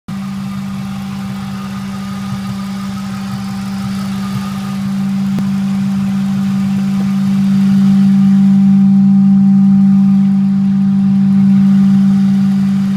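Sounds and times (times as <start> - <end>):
car engine humming: 0.1 - 12.9.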